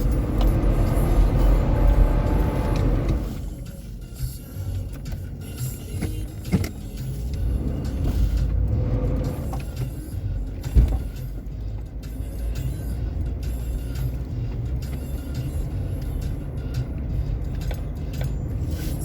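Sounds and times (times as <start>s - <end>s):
vehicle driving rumble: 0.0s - 19.0s.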